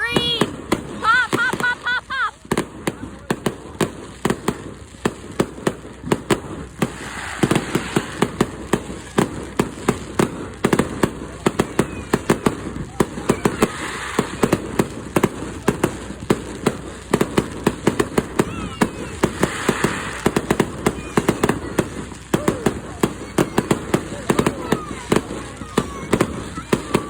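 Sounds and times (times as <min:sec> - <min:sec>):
crackling fireworks: 0:00.0 - 0:27.0
firework shell bursts: 0:05.1 - 0:27.0.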